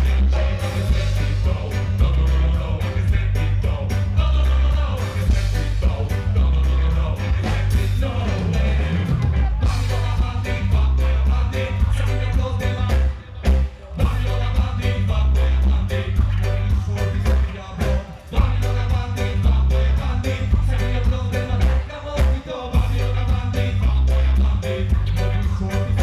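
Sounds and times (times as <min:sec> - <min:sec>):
live reggae band: 0:00.0 - 0:26.0
people singing into microphones: 0:00.0 - 0:26.0.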